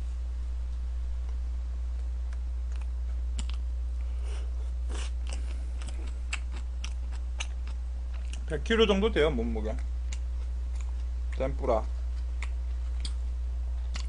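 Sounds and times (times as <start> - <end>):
low electrical hum: 0.0 - 14.0
crunchy food chewing: 1.2 - 8.9, 9.7 - 14.0.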